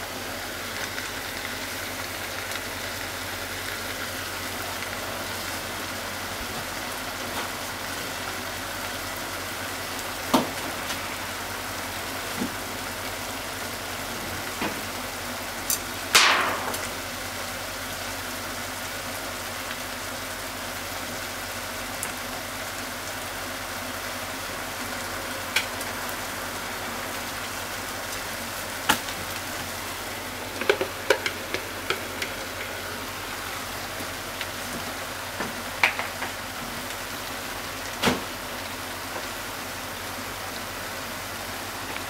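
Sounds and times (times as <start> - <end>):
chicken and onion sizzling: 0.0 - 42.0.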